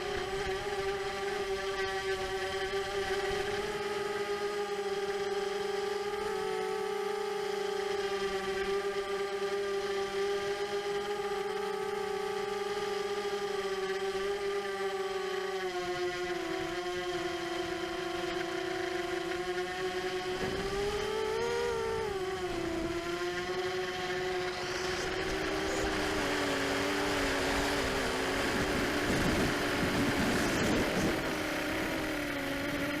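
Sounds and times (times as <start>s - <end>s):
quadcopter motors whining: 0.0s - 33.0s.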